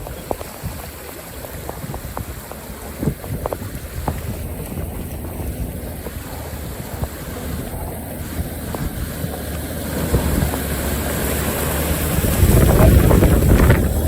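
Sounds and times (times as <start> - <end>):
vehicle engine at low revs: 0.0 - 14.0
wind rumbling on microphone: 0.0 - 14.0.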